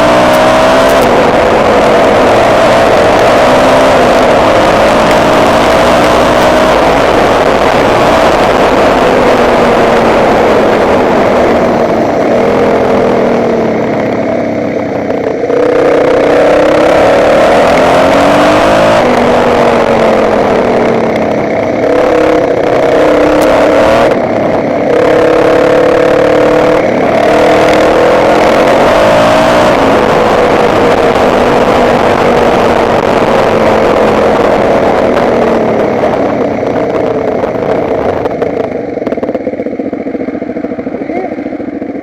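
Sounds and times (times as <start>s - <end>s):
motocross bike engine revving: 0.0s - 42.0s
wind and ground noise: 0.0s - 42.0s.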